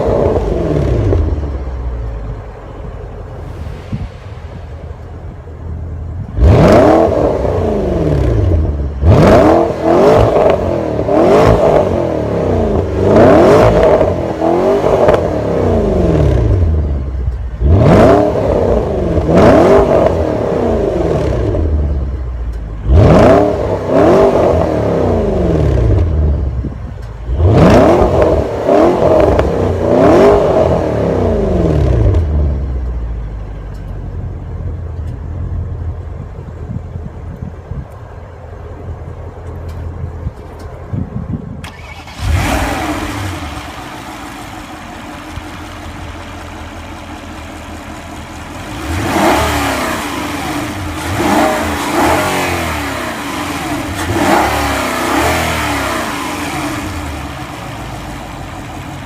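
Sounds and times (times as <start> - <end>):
car engine revving: 0.0 - 33.0, 41.6 - 59.0
car engine idling: 0.0 - 59.0.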